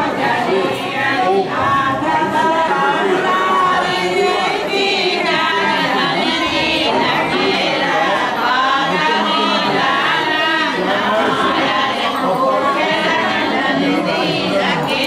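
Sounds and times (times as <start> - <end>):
voices singing in chorus: 0.0 - 15.0.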